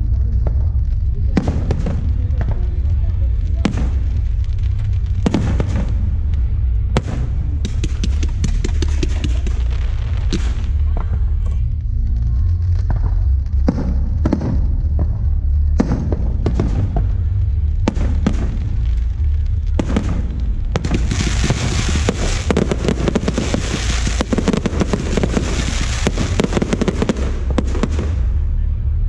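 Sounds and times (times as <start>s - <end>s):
deep rumble: 0.0s - 29.0s
rapid crackling bursts: 0.0s - 29.0s.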